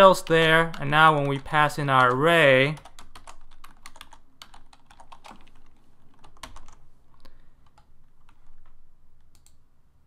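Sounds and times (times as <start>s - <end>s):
computer keyboard typing: 0.0s - 6.8s, 7.6s - 9.6s.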